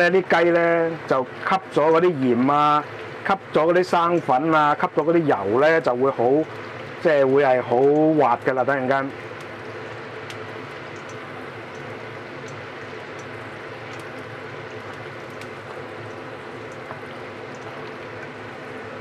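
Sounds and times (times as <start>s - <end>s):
soup boiling: 0.0s - 19.0s.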